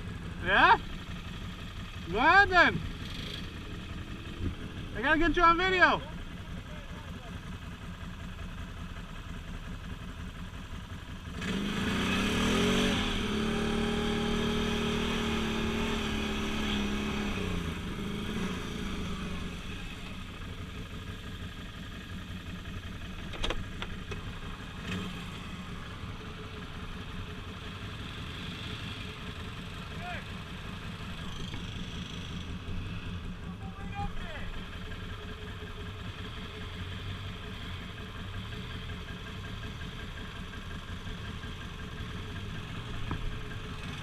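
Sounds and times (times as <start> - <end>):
atv engine idling and revving: 0.0 - 44.0.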